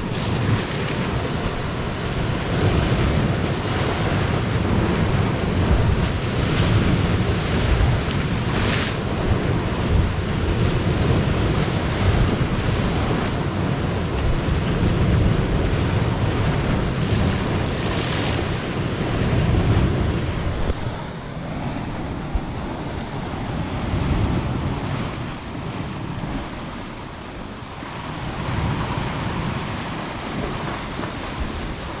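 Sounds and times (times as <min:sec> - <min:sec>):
ocean waves breaking: 0:00.0 - 0:32.0
wind buffeting microphone: 0:00.0 - 0:32.0.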